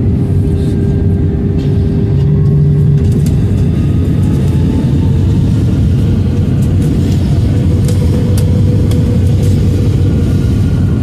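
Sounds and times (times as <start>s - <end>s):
faint steady whine: 0.0s - 11.0s
jet engine cabin rumble: 0.0s - 11.0s.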